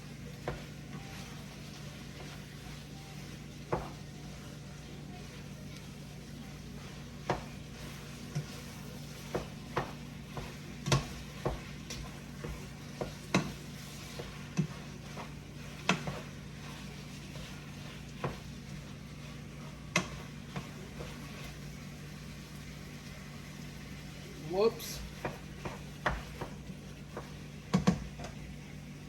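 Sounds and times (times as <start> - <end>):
meat sizzling in a pan: 0.0 - 29.0
utensil scraping a pan: 0.2 - 22.5, 24.5 - 28.1.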